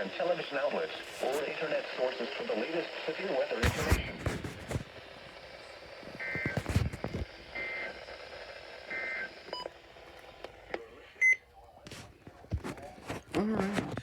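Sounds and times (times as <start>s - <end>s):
faint radio hiss: 0.0s - 14.0s.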